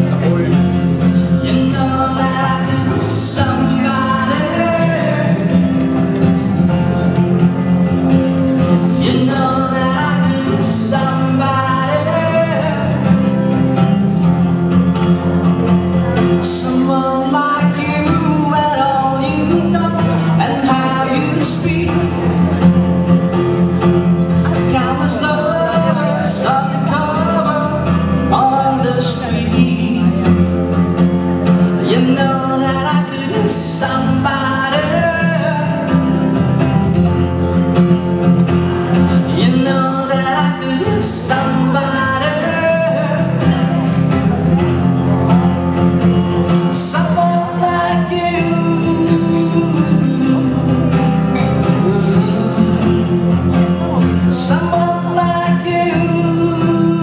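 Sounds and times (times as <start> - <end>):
acoustic guitar: 0.0 - 57.0
man singing: 0.0 - 57.0.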